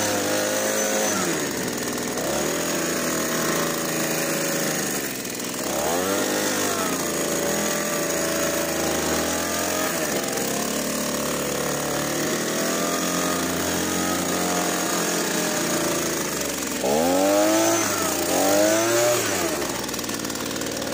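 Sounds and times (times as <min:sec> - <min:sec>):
leaf blower running: 0:00.0 - 0:20.9.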